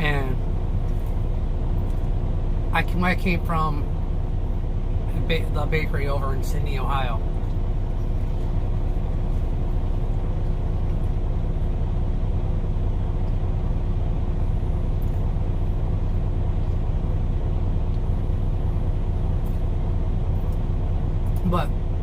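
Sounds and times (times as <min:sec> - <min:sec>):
diesel truck engine idling: 0:00.0 - 0:22.0
faint constant hum: 0:00.0 - 0:22.0.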